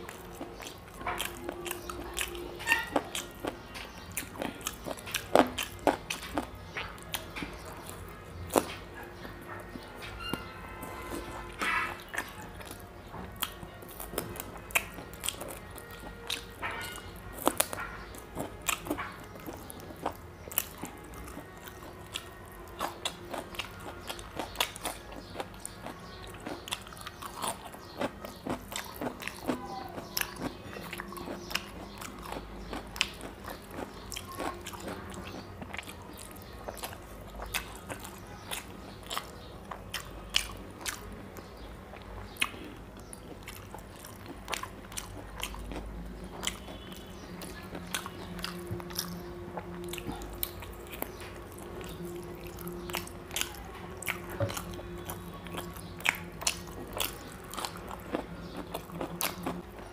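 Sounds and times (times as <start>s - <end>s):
man chewing and biting: 0.0s - 9.8s, 11.1s - 41.1s, 41.9s - 59.9s.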